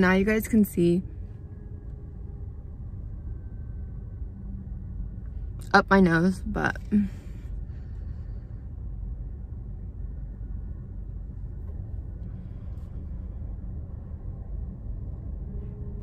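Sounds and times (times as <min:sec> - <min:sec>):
car engine rumble in cabin: 0:00.0 - 0:16.0.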